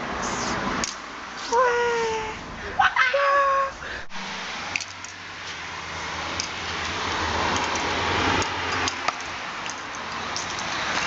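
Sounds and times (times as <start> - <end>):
road vehicle passing: 0.0 - 1.6, 2.2 - 11.0.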